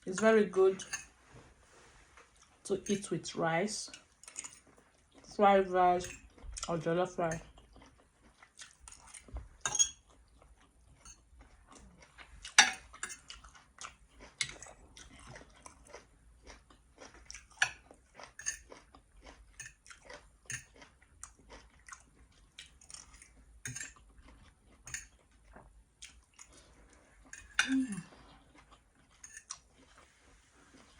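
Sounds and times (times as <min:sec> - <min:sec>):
person chewing food: 0:01.0 - 0:02.7, 0:03.9 - 0:05.4, 0:06.0 - 0:30.9.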